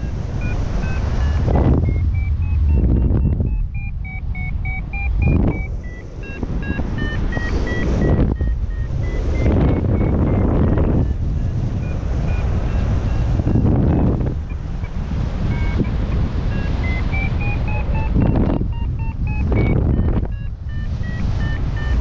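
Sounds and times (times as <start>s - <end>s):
short wavering beeps: 0.0s - 22.0s
wind buffeting microphone: 0.0s - 22.0s.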